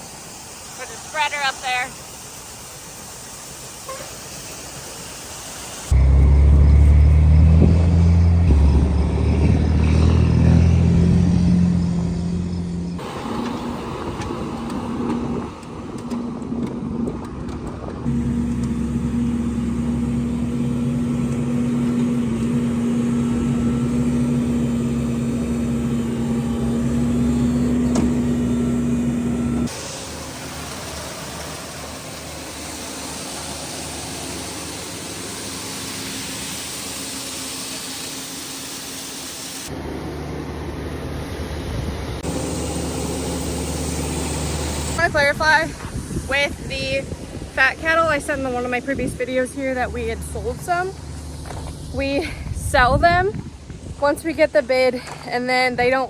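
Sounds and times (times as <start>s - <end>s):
farm machinery engines running: 0.0s - 56.0s.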